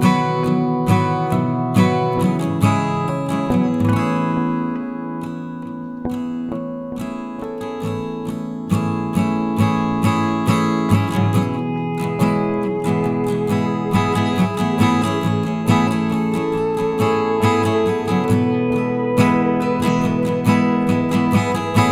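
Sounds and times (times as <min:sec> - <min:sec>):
acoustic guitar music: 0:00.0 - 0:21.9.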